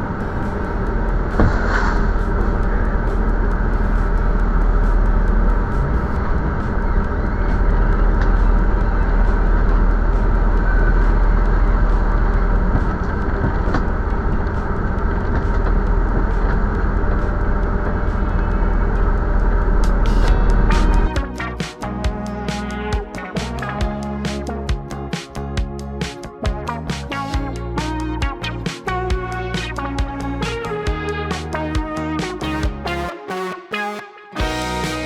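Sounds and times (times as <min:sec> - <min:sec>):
vehicle engine and road noise: 0:00.0 - 0:32.6.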